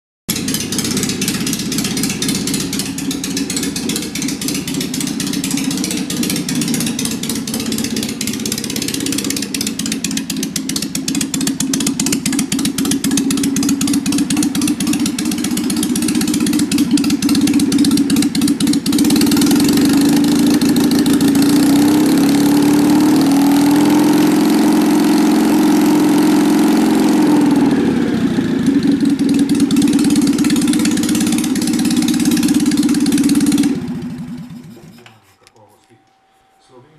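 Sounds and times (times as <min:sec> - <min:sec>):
car engine running: 0:00.3 - 0:35.0.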